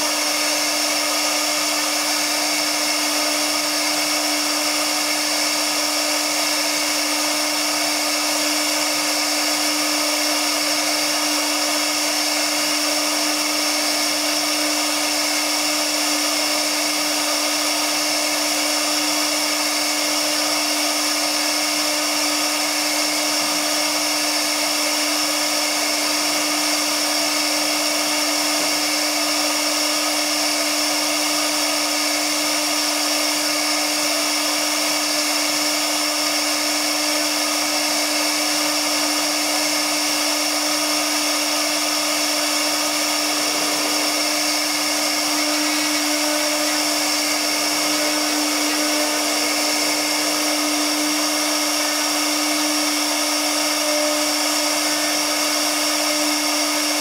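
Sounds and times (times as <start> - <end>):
cnc router carving wood: 0.0 - 57.0.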